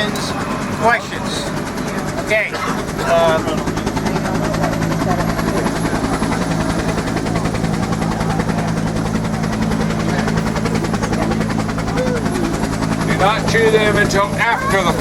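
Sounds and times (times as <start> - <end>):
helicopter rotor beating: 0.0 - 15.0
turbine engine drone: 0.0 - 15.0.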